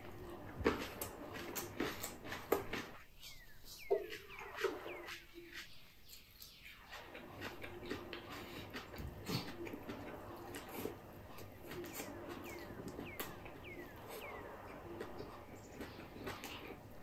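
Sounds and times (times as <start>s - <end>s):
low hum: 0.0s - 5.5s, 6.1s - 17.0s
chewing with wet clicks: 0.0s - 17.0s.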